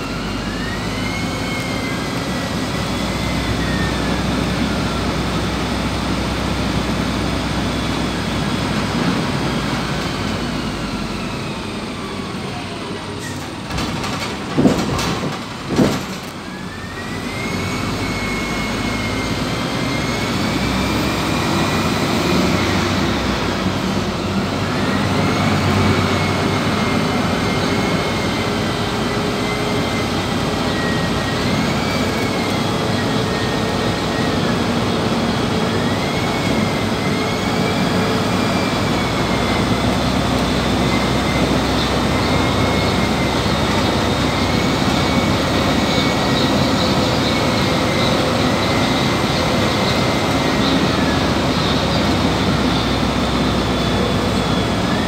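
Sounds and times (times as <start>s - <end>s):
bus engine and road noise: 0.0s - 55.0s.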